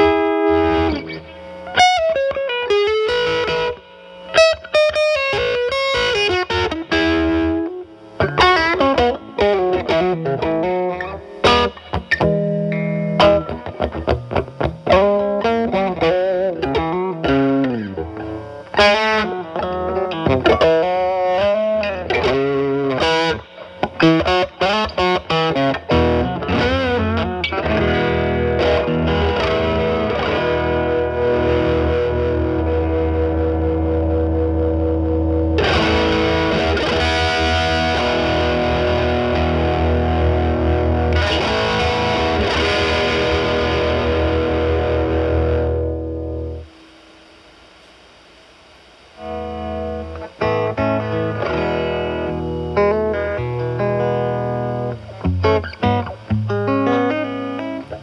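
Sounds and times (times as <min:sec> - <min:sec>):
overdriven electric guitar: 0:00.0 - 0:58.0.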